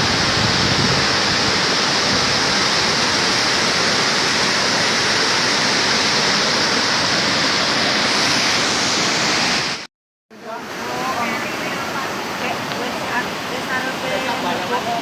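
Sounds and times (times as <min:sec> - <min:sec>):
river water roaring: 0:00.0 - 0:15.0.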